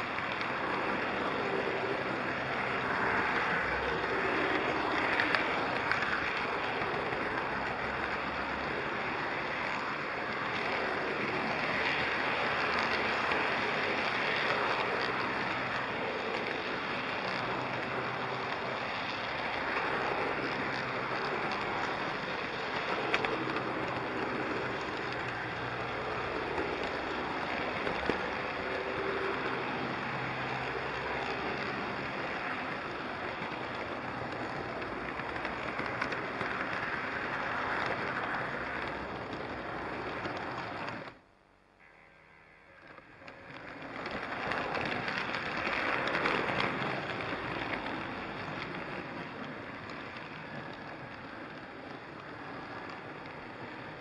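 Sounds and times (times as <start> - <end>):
model train rolling on track: 0.0 - 54.0.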